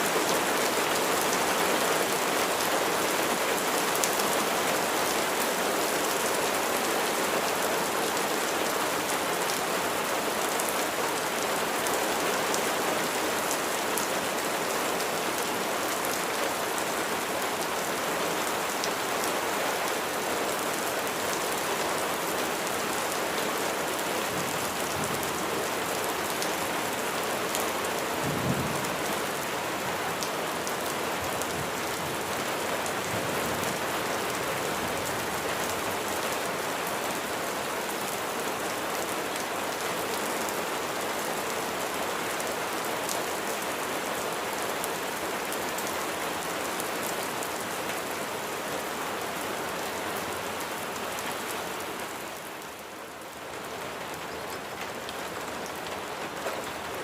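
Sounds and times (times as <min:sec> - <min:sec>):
steady rain pouring: 0:00.0 - 0:57.0.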